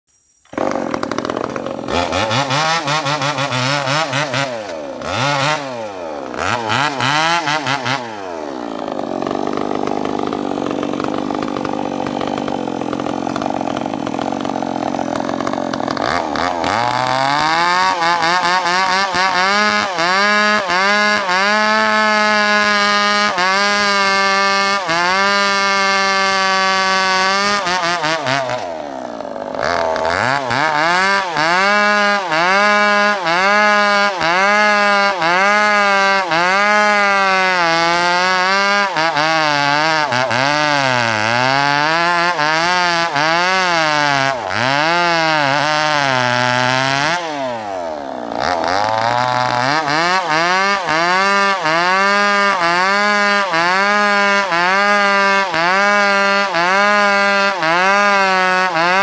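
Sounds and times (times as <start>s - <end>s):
chainsaw cutting log: 0.4s - 59.0s.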